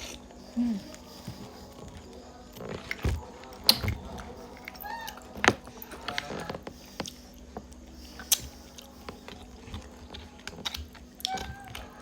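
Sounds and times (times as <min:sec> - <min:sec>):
chewing and biting: 0:00.0 - 0:12.0.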